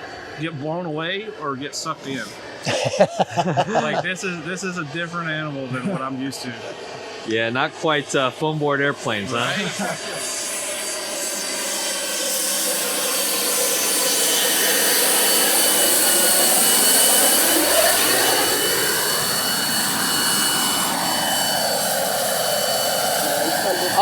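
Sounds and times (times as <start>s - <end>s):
turbine whine: 0.0s - 24.0s.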